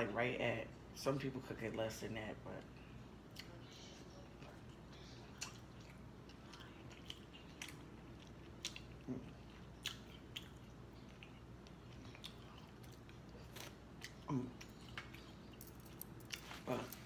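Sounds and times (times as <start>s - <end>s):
person chewing: 3.2s - 17.0s.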